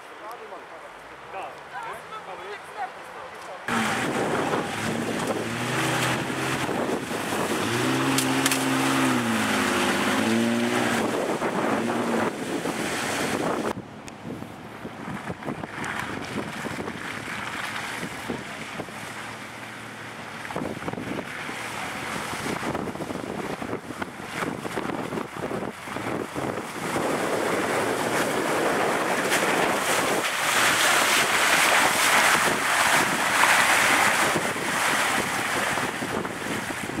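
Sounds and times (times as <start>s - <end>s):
vehicles driving through mud: 0.0s - 37.0s
wind buffeting microphone: 3.7s - 19.0s, 20.5s - 37.0s.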